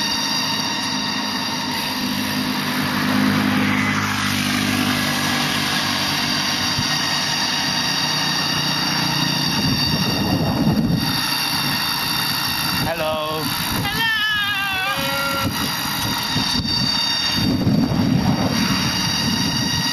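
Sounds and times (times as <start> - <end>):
insects whining: 0.0 - 19.9
low rumble of wind: 1.1 - 19.9.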